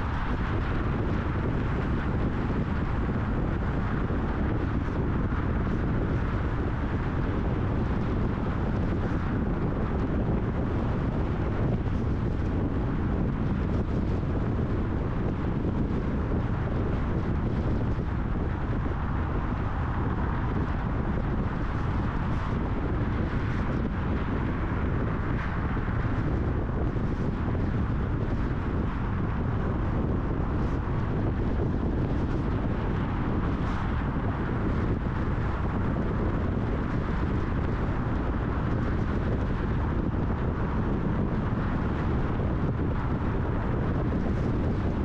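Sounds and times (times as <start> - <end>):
car road and wind noise: 0.0 - 45.0
wind buffeting microphone: 0.0 - 45.0.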